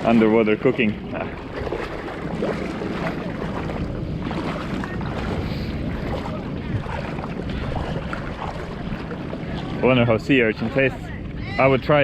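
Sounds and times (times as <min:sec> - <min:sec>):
boat engine low rumble: 0:00.0 - 0:12.0
wind buffeting microphone: 0:00.0 - 0:12.0.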